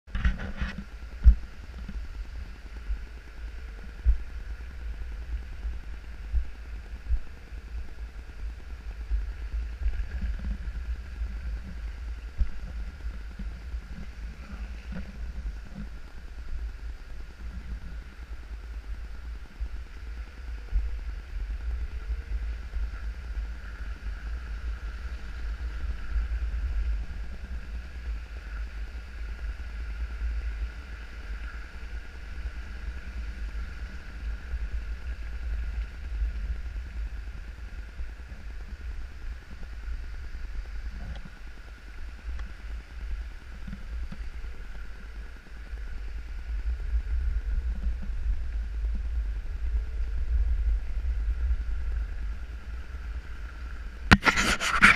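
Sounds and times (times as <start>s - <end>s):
faint steady whine: 0.1s - 54.9s
wind buffeting microphone: 0.1s - 54.9s.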